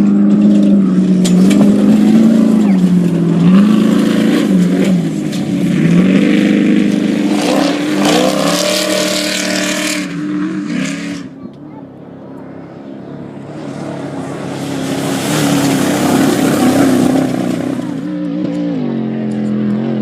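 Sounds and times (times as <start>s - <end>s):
race vehicle engine revving: 0.0s - 20.0s.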